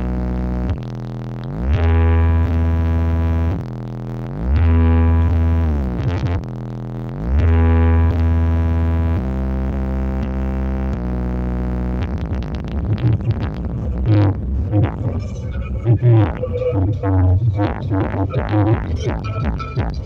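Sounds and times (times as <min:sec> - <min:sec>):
electronic music with heavy bass: 0:00.0 - 0:20.0.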